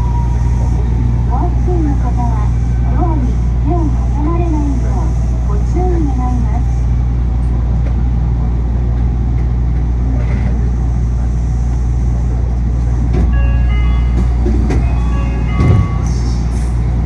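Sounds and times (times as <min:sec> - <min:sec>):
monorail car interior drone: 0:00.0 - 0:17.0.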